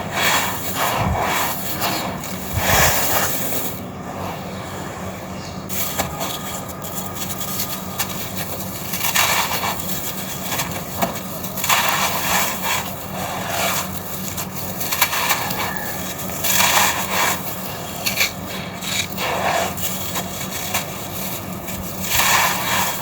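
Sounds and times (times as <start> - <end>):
sand-cement chunks crunching: 0.0 - 3.8, 5.7 - 23.0.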